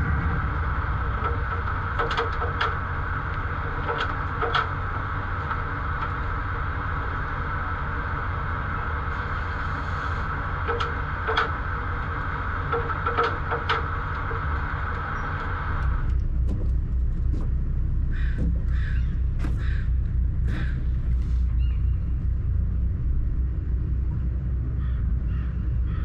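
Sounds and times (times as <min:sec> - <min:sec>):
constant hum: 0:00.0 - 0:26.0
low engine rumble: 0:00.0 - 0:26.0.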